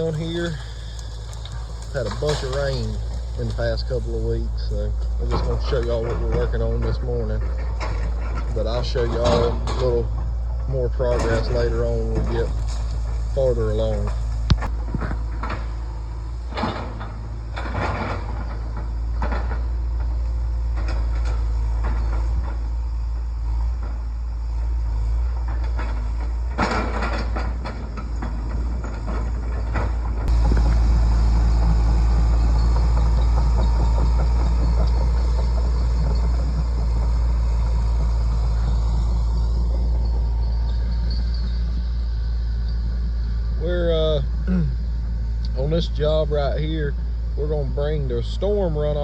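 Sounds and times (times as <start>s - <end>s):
metal clanks and knocks: 0.0s - 22.7s, 25.3s - 42.9s
excavator diesel engine running: 0.0s - 49.0s.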